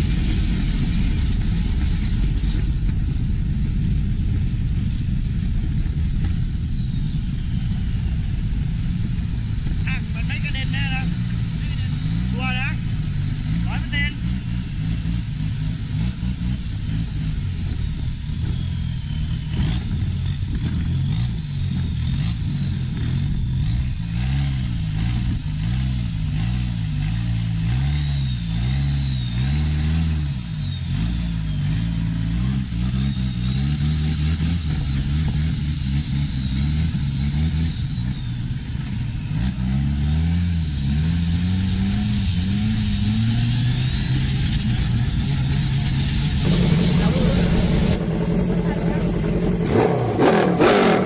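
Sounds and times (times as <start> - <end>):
engine revving: 0.0 - 51.0
high engine whine: 0.0 - 51.0.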